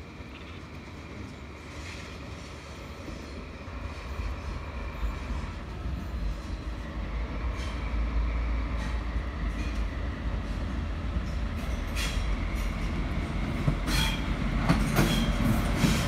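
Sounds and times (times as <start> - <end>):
approaching train rumble: 0.0 - 16.0.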